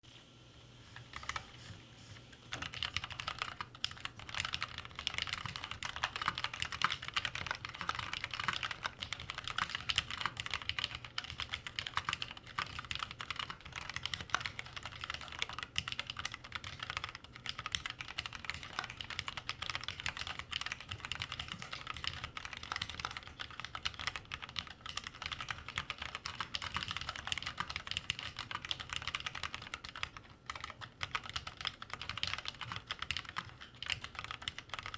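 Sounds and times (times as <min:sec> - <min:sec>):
mechanical keyboard typing: 0:02.5 - 0:34.9.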